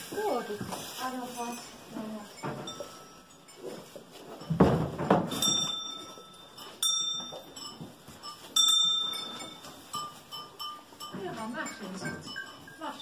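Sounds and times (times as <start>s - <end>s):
animal bell clanking: 0.2s - 13.0s.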